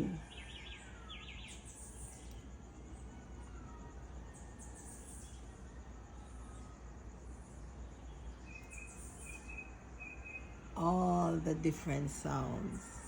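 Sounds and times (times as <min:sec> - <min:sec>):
insects trilling: 0:00.0 - 0:13.0
steady low hum: 0:00.0 - 0:13.0.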